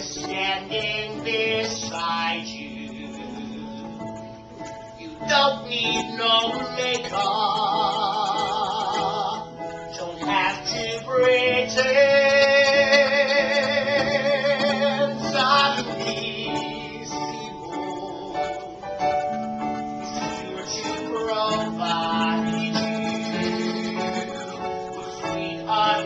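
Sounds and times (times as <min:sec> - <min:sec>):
instrumental accompaniment: 0:00.0 - 0:26.0
person singing with vibrato: 0:00.0 - 0:26.0.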